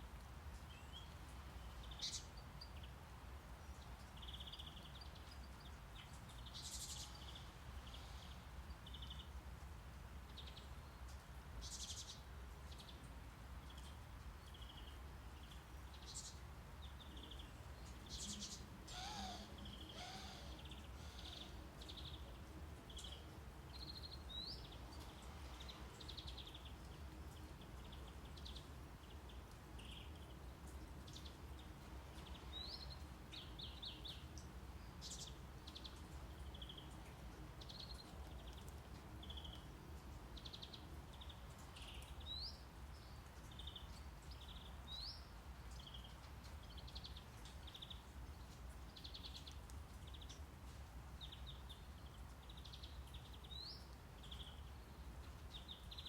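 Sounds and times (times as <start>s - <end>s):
low rumble of brown noise: 0.0s - 56.0s
birdsong chirps and trills: 10.3s - 56.0s.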